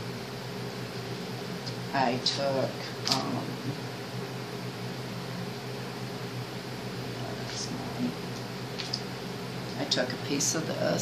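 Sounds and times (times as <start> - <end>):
room noise hum and hiss: 0.0 - 11.0.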